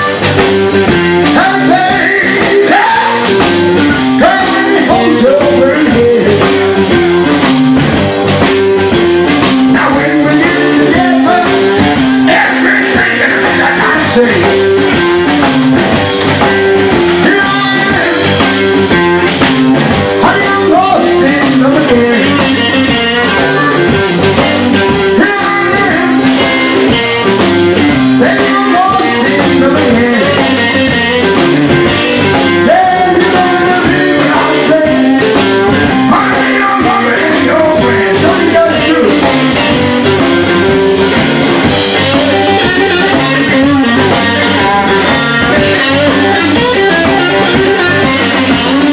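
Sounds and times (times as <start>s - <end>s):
electric blues band playing: 0.0s - 48.9s
electric guitar lead line: 0.0s - 48.9s.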